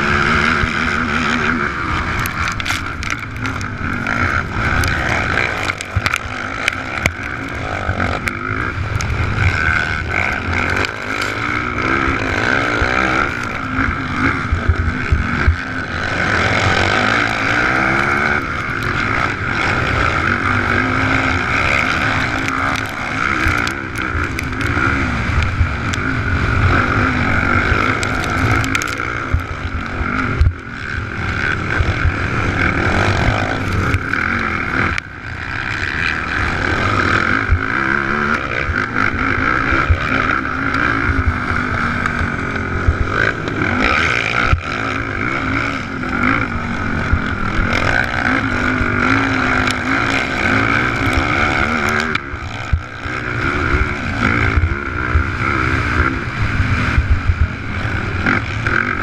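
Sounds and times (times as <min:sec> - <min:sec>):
quad engine revving: 0:00.0 - 0:59.0
wind rushing past camera: 0:00.0 - 0:59.0.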